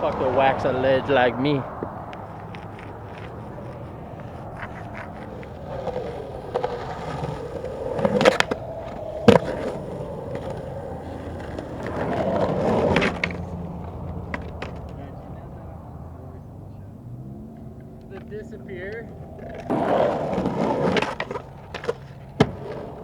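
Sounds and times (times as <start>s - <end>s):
skateboard clacks: 0.0s - 23.0s
skateboard wheels rolling: 0.0s - 23.0s.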